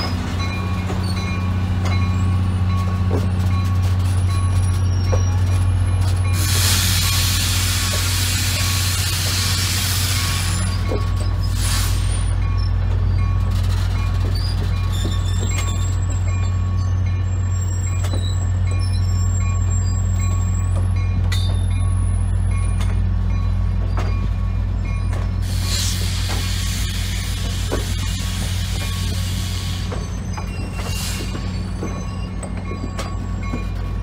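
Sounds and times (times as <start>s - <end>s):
wheels clicking over rail joints: 0.0s - 6.5s, 7.2s - 34.0s.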